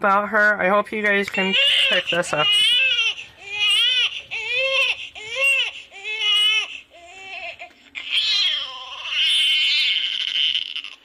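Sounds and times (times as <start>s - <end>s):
recorded baby crying: 1.4s - 11.0s.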